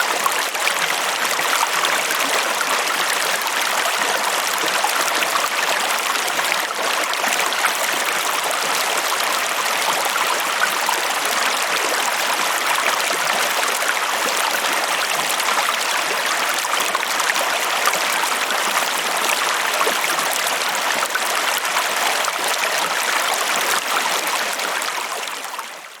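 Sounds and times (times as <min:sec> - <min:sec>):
stream water rushing and babbling: 0:00.0 - 0:26.0.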